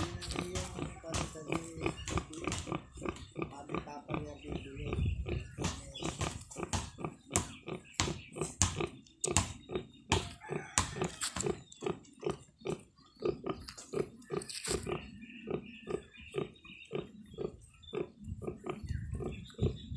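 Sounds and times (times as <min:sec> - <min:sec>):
sow grunting: 0:00.0 - 0:19.9.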